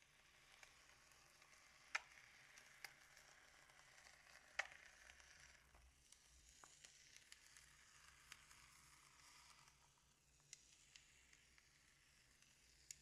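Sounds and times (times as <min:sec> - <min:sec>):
crackling squish of slime: 0:00.1 - 0:13.0.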